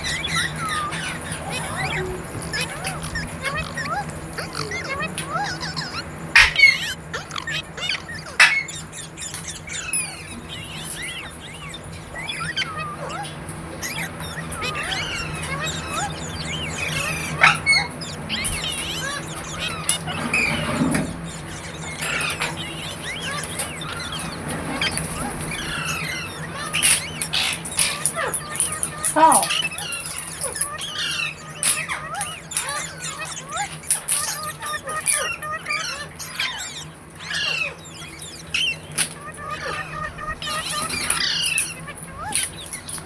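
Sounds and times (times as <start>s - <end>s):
parakeet squawks: 0.0s - 43.0s
parrot screeching and chirping: 0.0s - 43.0s.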